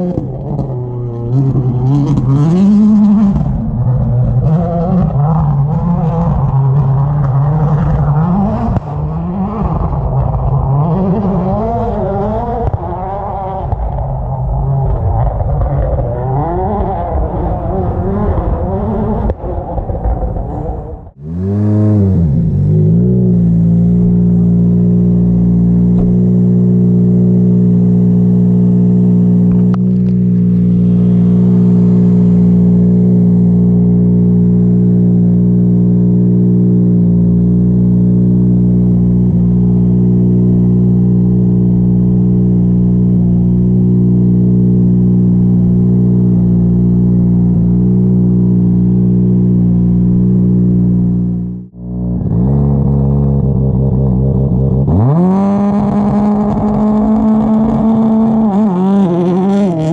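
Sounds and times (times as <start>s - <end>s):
rally car engine idling: 0.0s - 59.9s.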